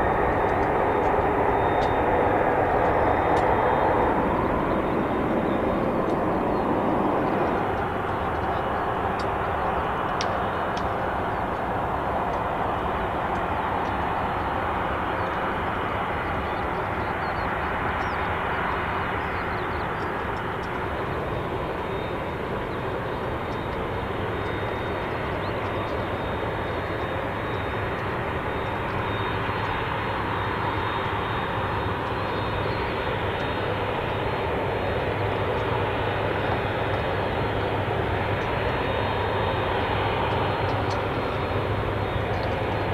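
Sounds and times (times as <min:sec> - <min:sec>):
jet engines whining and rumbling: 0:00.0 - 0:42.9.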